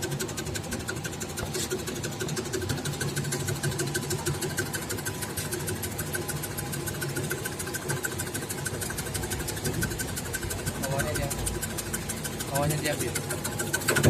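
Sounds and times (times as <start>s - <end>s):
fast rhythmic clicks: 0.0s - 14.0s
slicing machine humming: 0.0s - 14.0s.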